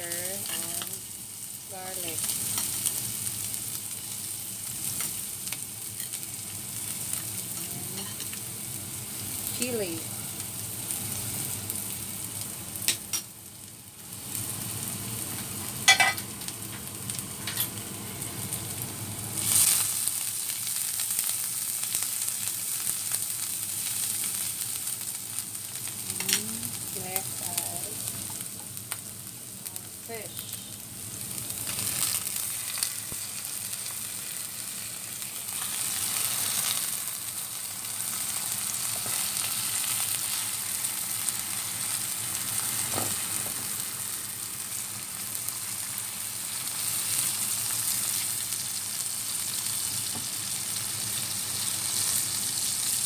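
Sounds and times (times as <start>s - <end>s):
garlic sizzling in hot oil: 0.0s - 53.0s.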